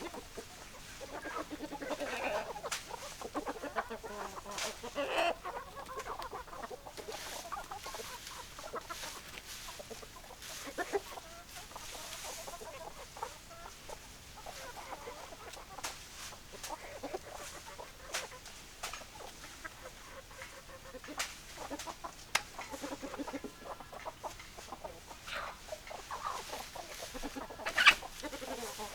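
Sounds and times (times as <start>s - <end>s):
hens clucking: 0.0s - 28.9s.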